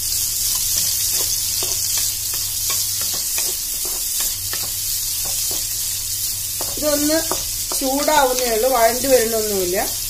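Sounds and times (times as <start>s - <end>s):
onions sizzling in oil: 0.0s - 10.0s
wooden spatula scraping pan: 0.8s - 9.0s.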